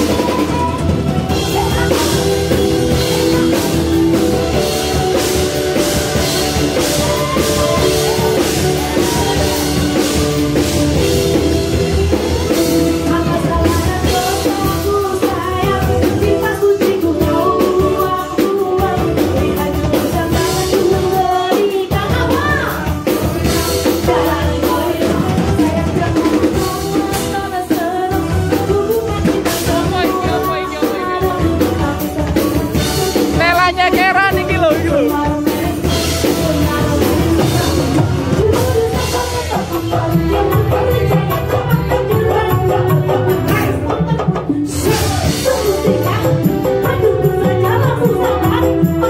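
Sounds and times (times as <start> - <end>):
electric guitars: 0.0 - 49.0
hand drums and drum kit: 0.0 - 49.0
keyboard: 0.0 - 49.0
person singing: 0.0 - 49.0.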